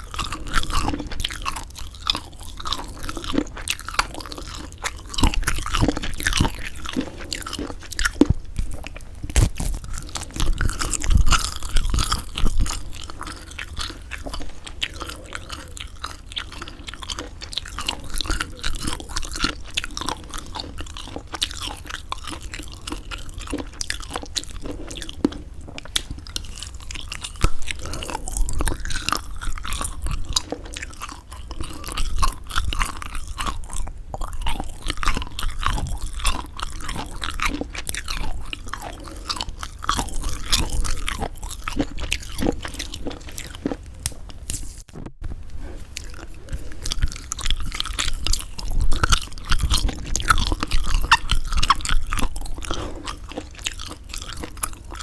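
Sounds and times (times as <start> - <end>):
chewing dried squid: 0.0 - 55.0.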